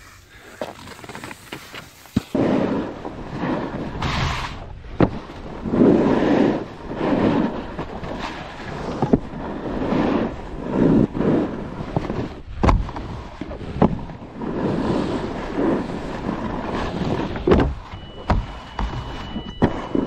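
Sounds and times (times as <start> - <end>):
snowboard scraping over snow: 0.0 - 20.0.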